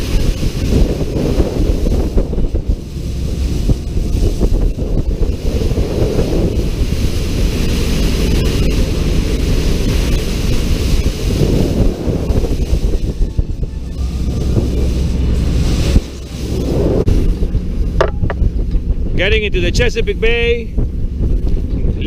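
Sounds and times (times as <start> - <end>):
water rushing along hull: 0.0 - 22.0
wind buffeting microphone: 0.0 - 22.0.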